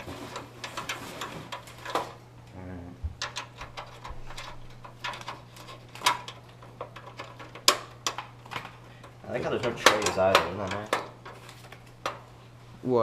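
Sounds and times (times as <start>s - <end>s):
hands handling computer parts: 0.0s - 2.2s, 3.2s - 12.3s
low steady hum: 0.0s - 13.0s.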